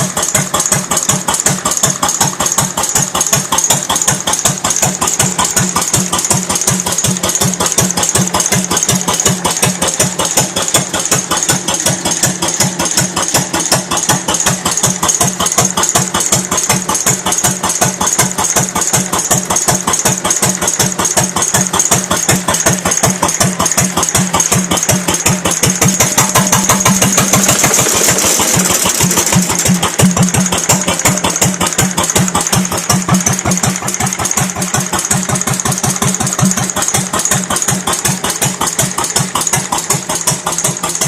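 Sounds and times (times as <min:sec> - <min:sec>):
stationary engine running steadily: 0:00.0 - 0:41.0.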